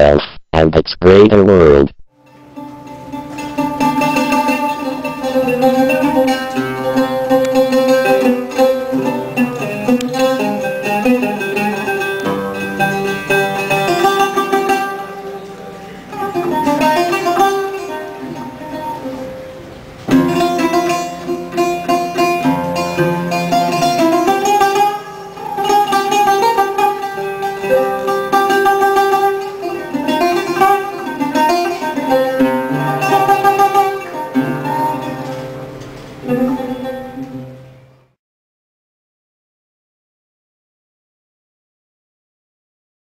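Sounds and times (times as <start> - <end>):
held bass notes: 0.0 - 38.1
plucked guitar melody: 2.2 - 38.1.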